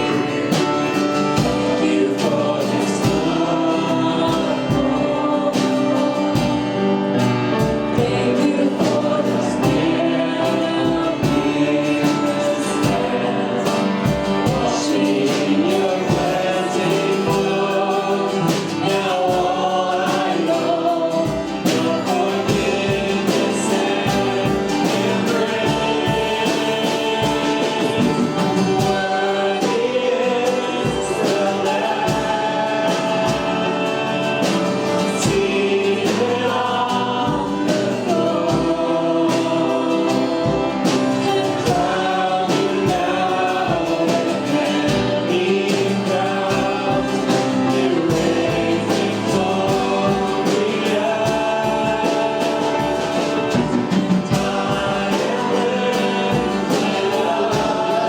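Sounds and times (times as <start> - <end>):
band with steady drum beat: 0.0 - 58.0
group singing gospel song: 0.0 - 58.0.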